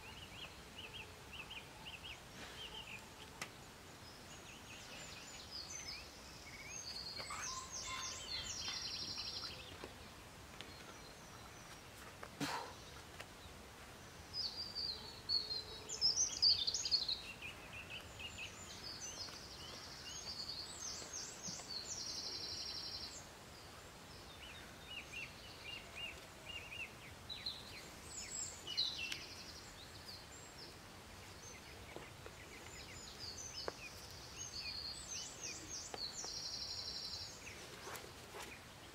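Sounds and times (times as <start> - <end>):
small birds singing: 0.0 - 38.9
steady background hiss: 0.0 - 38.9.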